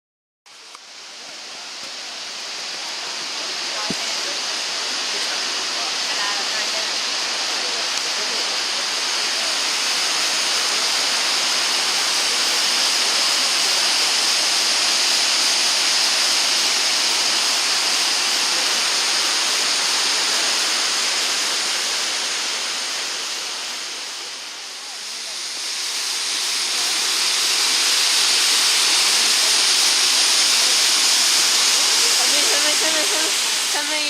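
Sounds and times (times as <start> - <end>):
waterfall rushing: 0.5 - 34.0.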